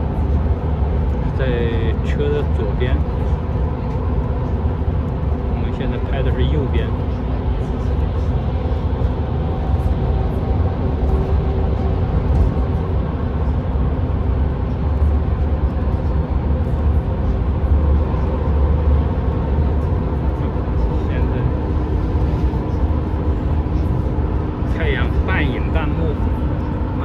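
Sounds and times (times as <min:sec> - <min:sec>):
steady hum: 0:00.0 - 0:27.0
tyre and engine rumble: 0:00.0 - 0:27.0.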